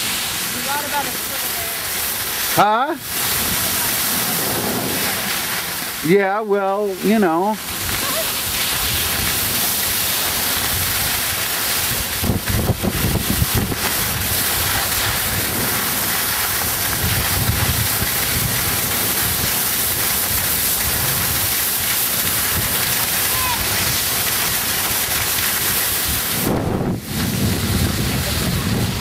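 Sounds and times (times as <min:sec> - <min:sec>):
skis sliding over snow: 0:00.0 - 0:29.0
wind rushing over microphone: 0:03.0 - 0:06.1, 0:07.5 - 0:29.0.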